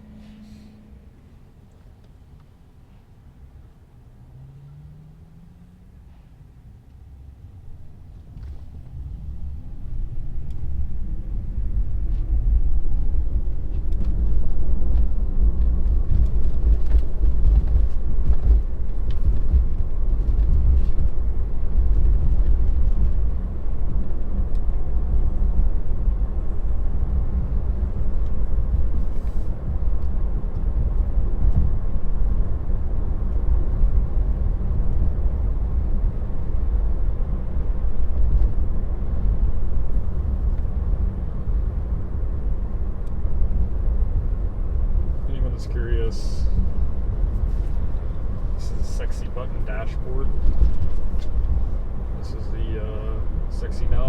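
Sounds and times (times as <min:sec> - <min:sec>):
road and tyre rumble: 0:00.0 - 0:54.0.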